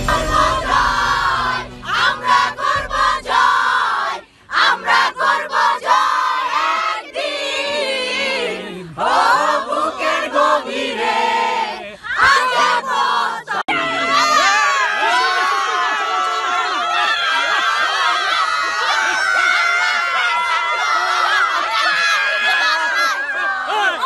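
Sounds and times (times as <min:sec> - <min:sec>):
women singing and shouting a chant: 0:00.0 - 0:22.1.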